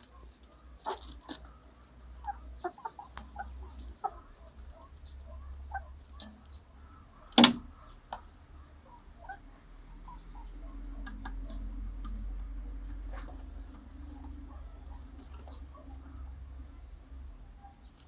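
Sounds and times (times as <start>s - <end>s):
chicks clucking softly: 0.0s - 18.0s.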